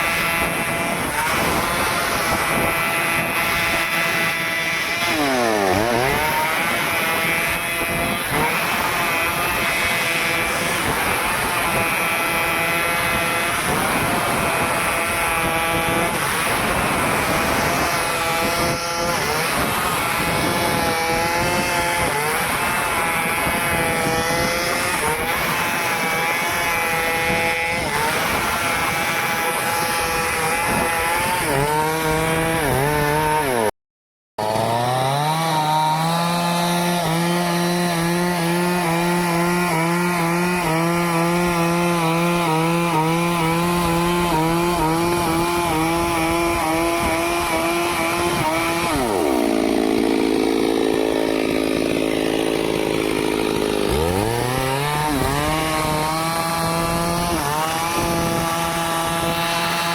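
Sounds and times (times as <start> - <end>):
chainsaw cutting through wood: 0.0 - 33.8, 34.4 - 59.9.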